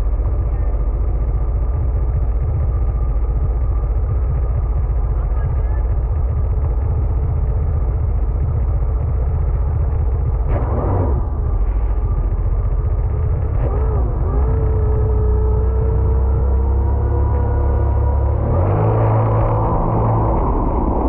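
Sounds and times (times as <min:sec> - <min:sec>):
jet ski engine running: 0:00.0 - 0:21.0.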